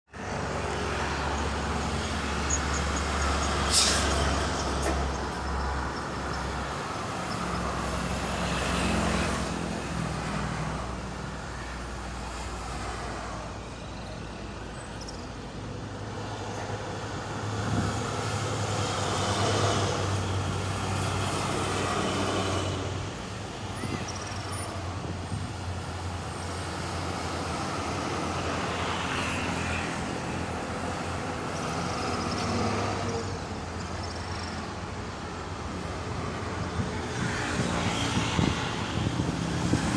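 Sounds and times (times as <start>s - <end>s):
cars and trucks passing: 0.1s - 39.9s.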